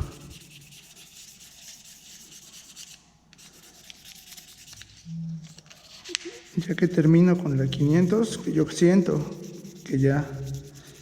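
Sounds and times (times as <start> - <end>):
sandpaper scratching plastic: 0.0 - 11.0.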